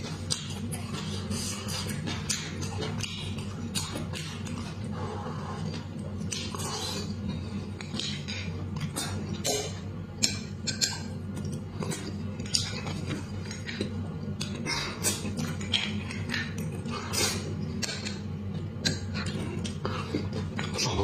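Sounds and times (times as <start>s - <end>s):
steady low hum: 0.0s - 21.0s
wet chewing and smacking: 0.0s - 21.0s.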